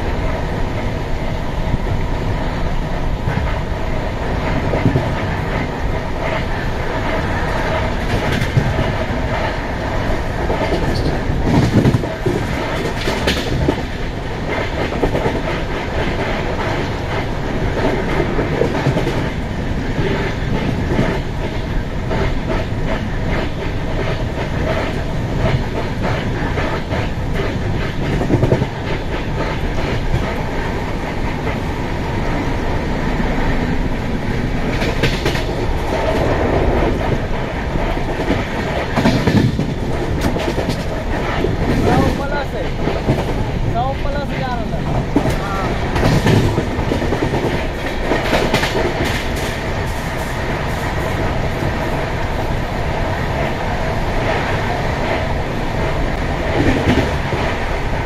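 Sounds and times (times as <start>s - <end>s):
train rumble and wind rush: 0.0s - 58.0s
wheels clicking over rail joints: 3.2s - 32.5s, 33.2s - 53.6s.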